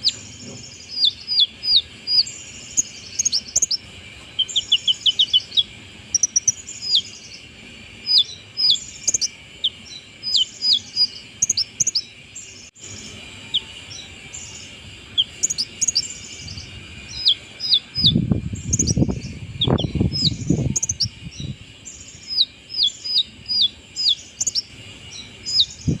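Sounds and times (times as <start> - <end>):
bird chirping: 0.0 - 26.0
low rumbling noise: 0.0 - 26.0.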